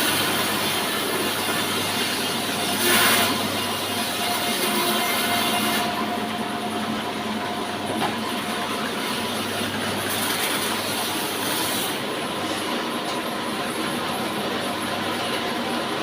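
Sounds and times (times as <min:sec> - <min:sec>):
band saw running: 0:00.0 - 0:16.0.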